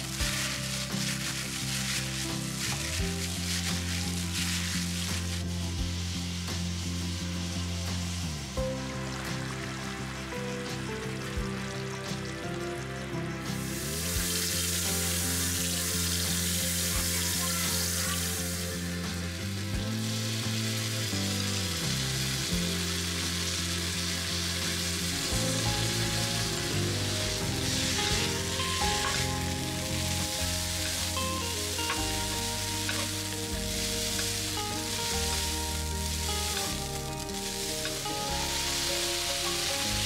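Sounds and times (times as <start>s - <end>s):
noodles sizzling in hot oil: 0.0s - 40.0s.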